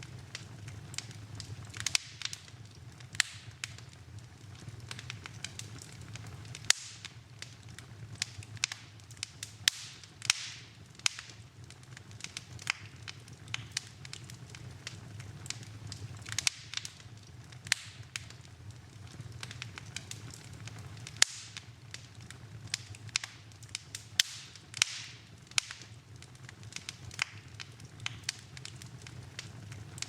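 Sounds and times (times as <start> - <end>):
fire crackling: 0.0 - 30.0
fire popping: 0.0 - 30.0
low rumble of flames: 0.0 - 30.0.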